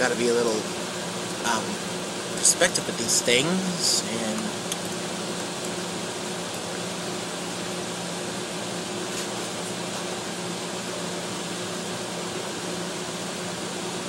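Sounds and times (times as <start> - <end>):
fan hiss: 0.0 - 14.0.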